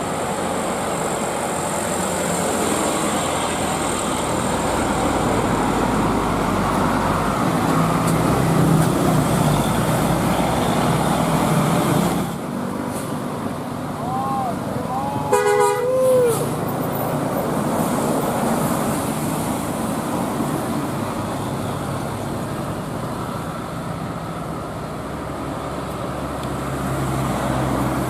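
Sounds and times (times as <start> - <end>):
bus driving past: 0.0 - 28.0.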